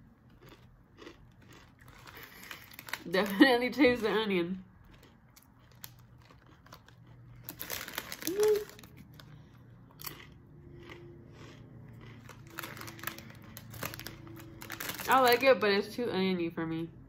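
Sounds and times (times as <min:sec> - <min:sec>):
chips crunching while chewed: 0:00.0 - 0:15.5
chip bag crinkling: 0:00.2 - 0:15.6.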